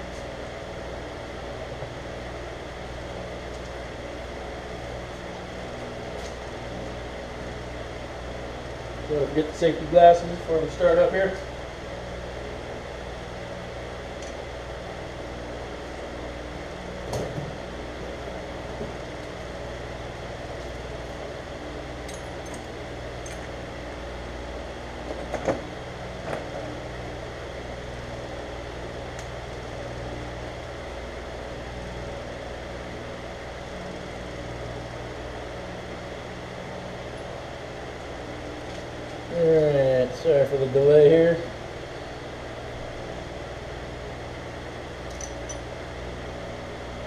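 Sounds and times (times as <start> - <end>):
machine humming: 0.0 - 47.0.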